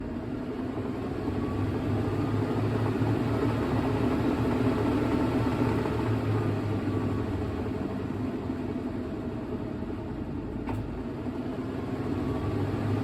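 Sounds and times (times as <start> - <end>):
washing machine spin cycle: 0.0 - 13.0.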